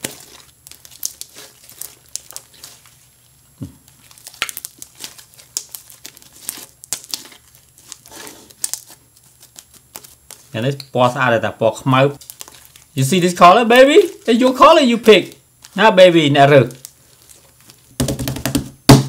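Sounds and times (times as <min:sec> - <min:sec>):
slime being kneaded: 0:00.0 - 0:11.3, 0:12.2 - 0:19.0.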